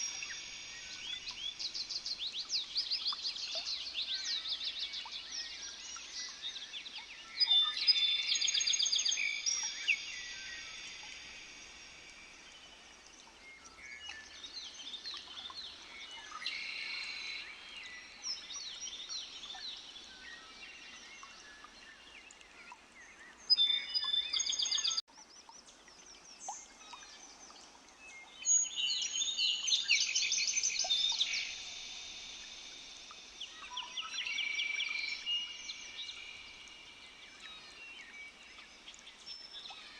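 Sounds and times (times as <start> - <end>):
faint steady hiss: 0.0 - 39.9
songbirds trilling and chirping: 0.0 - 39.9.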